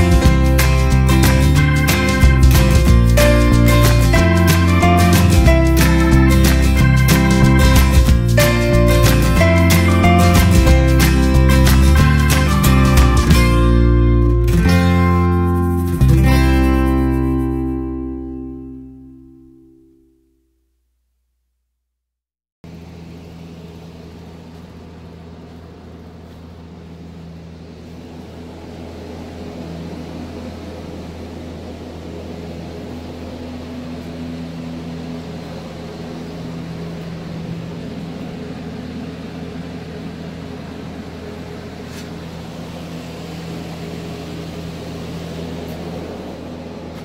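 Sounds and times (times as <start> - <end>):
steady mechanical hum: 0.0 - 19.9, 22.6 - 47.0.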